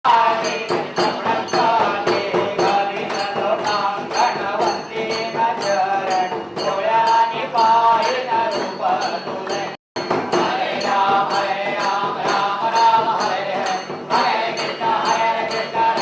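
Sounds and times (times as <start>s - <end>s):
jingling hand percussion: 0.1s - 16.0s.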